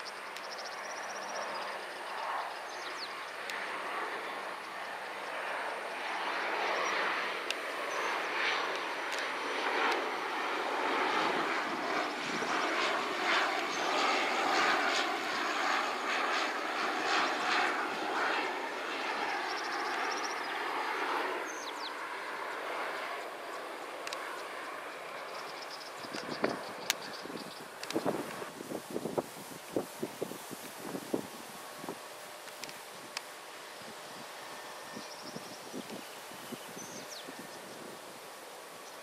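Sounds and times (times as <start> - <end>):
turboprop plane droning overhead: 0.0 - 39.0.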